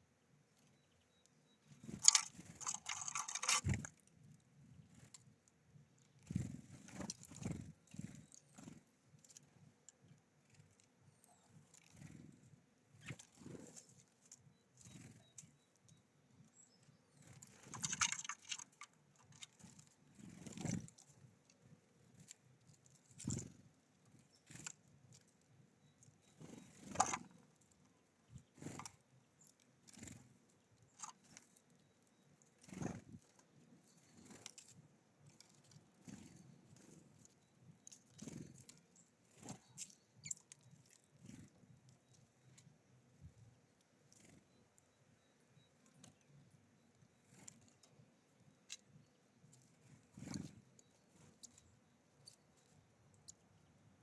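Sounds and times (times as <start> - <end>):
birds pecking and rustling: 0.4 - 54.0.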